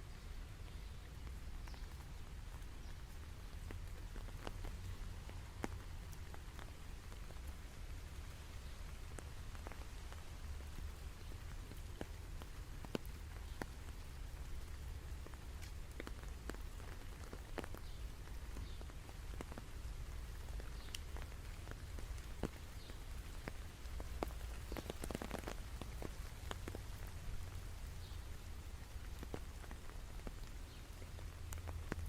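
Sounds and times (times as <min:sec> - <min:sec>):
raindrops striking a surface: 0:00.0 - 0:32.0
steady rain: 0:00.0 - 0:32.0.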